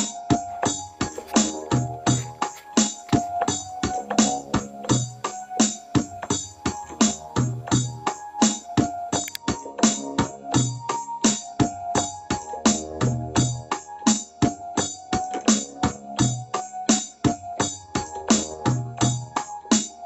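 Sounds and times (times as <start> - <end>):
keyboard notes: 0.0 - 19.8
background music with steady beat: 0.0 - 20.0.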